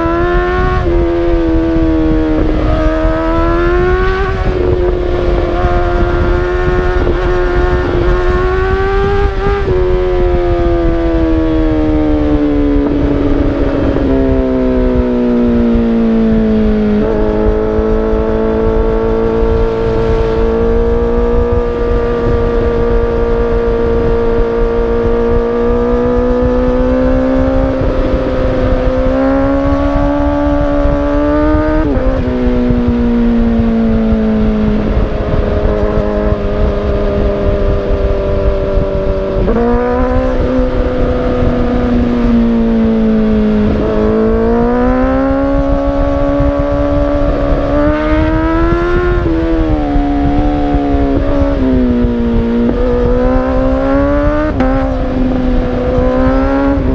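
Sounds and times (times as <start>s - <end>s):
motorcycle exhaust at highway speed: 0.0s - 56.9s.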